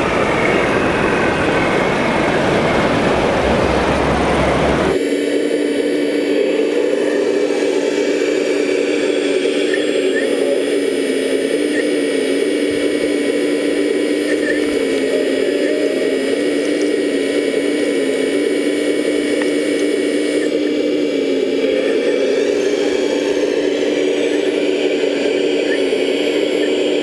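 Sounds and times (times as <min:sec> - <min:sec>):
electric motors humming and whining: 0:00.0 - 0:27.0
higher whine rising in pitch: 0:00.0 - 0:27.0.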